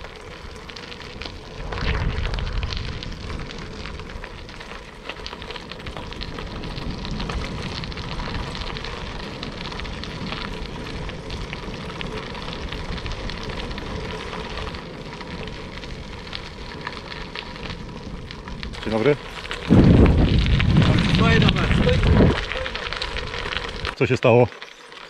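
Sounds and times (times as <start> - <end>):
wind rumbling on microphone: 0.0 - 24.0
bicycle tyres crunching gravel: 0.0 - 25.0.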